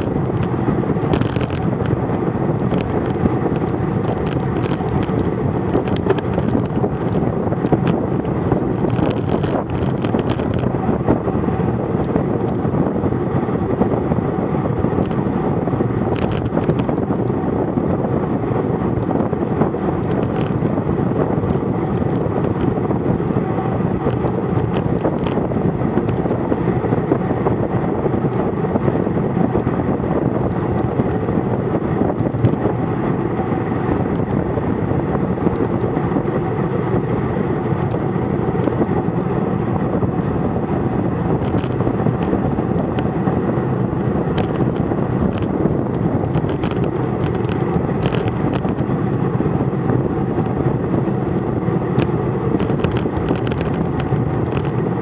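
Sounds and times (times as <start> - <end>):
road noise: 0.0 - 55.0
wind rushing on microphone: 0.0 - 55.0.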